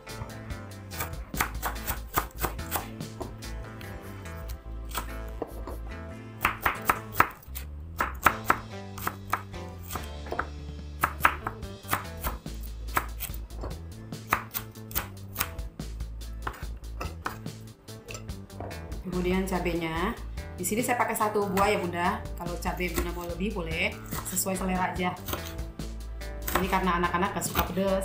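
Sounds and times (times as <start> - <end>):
soft background music: 0.0 - 28.0.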